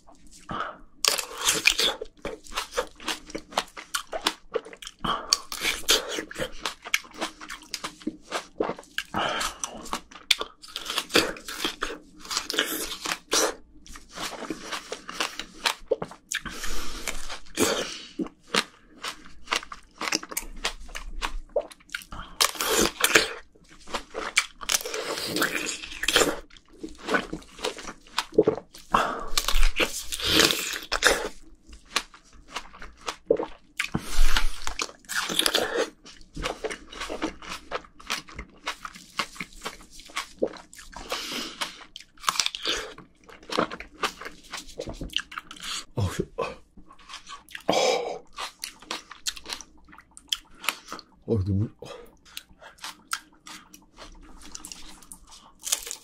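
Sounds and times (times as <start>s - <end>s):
wet juicy chewing: 0.1s - 51.2s, 51.9s - 56.0s.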